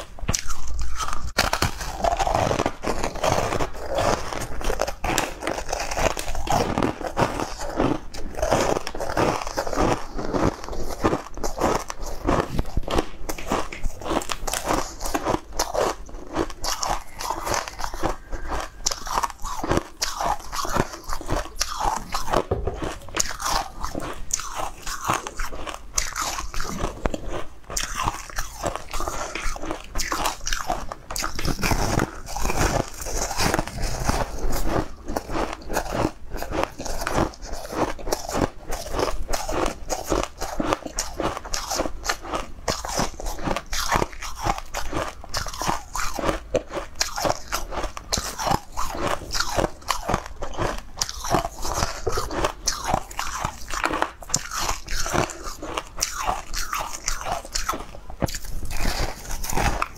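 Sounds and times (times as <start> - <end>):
crunching and chewing hard candy: 0.0 - 59.9.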